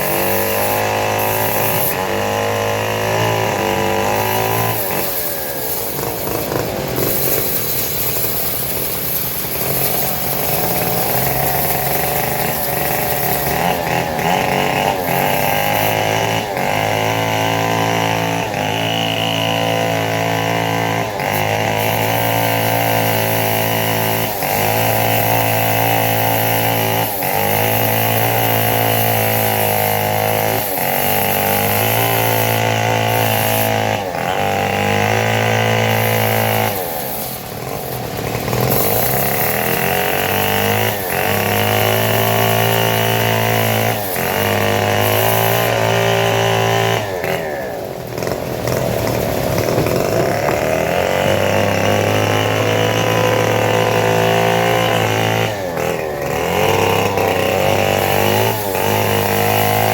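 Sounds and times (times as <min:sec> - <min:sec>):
petrol saw engine: 0:00.0 - 0:59.9.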